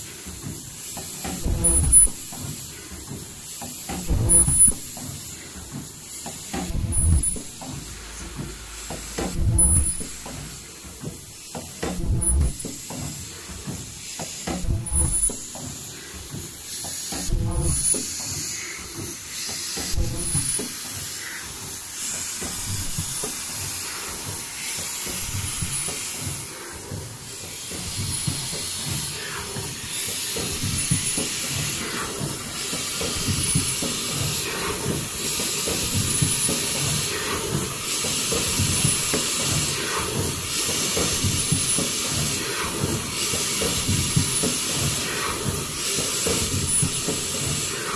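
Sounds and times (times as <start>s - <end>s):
machine hiss and clatter: 0.0s - 47.9s.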